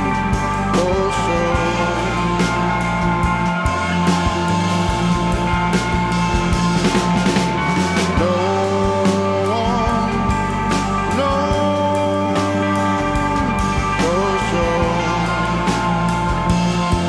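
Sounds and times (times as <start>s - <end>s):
drum kit: 0.0s - 17.0s
rock music: 0.0s - 17.0s.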